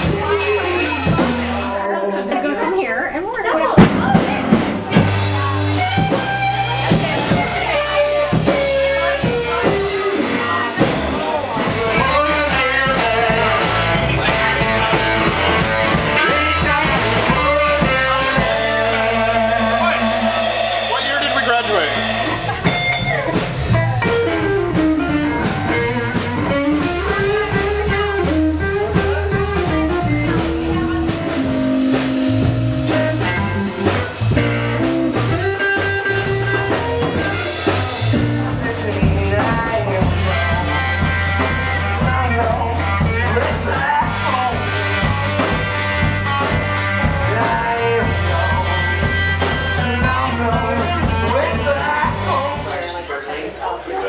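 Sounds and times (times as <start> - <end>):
drum kit: 0.0 - 2.6, 3.2 - 53.3
electric guitar melody: 0.0 - 53.1
low bass notes: 0.0 - 53.6.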